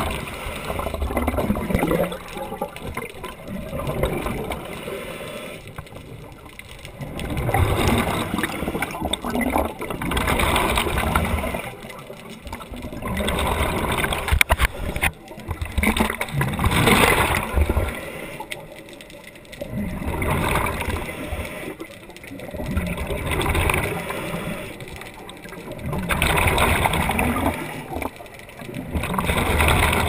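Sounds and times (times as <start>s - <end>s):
diver breathing underwater bubbling: 0.0s - 18.8s, 19.5s - 30.0s.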